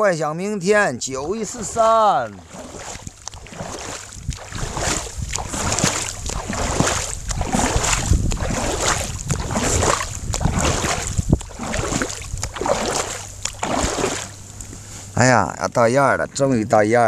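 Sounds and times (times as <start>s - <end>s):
boat moving through water: 0.7s - 17.0s
wind buffeting microphone: 1.0s - 14.9s.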